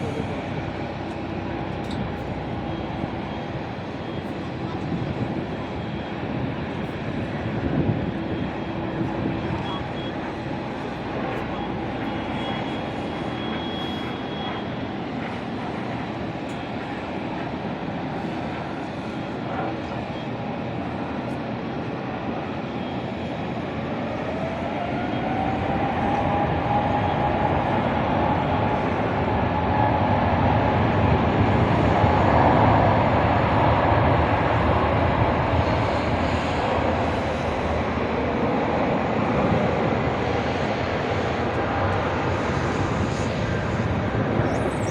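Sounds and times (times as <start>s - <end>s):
aeroplane engines spooling up: 0.0s - 44.9s.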